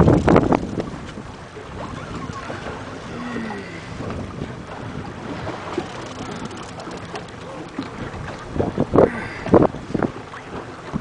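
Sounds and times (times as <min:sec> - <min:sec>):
sea water washing against hull: 0:00.0 - 0:11.0
wind buffeting microphone: 0:00.0 - 0:11.0.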